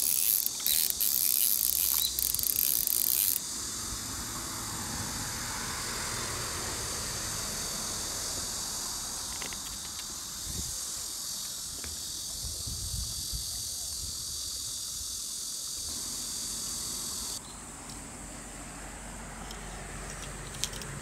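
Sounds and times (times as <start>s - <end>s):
loud high-pitched insect buzzing: 0.0s - 17.4s
shrill chorus of insects: 0.0s - 20.9s.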